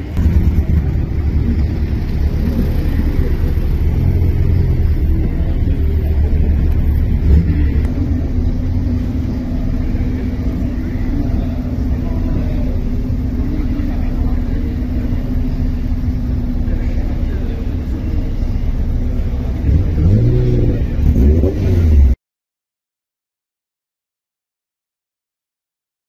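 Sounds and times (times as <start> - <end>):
race car engine rumbling: 0.0 - 22.2.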